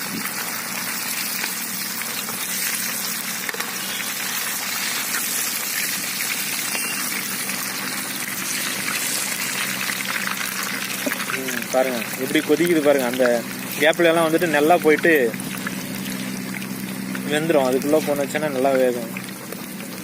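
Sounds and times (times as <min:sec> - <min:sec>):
oil bubbling and sizzling: 0:00.0 - 0:20.0.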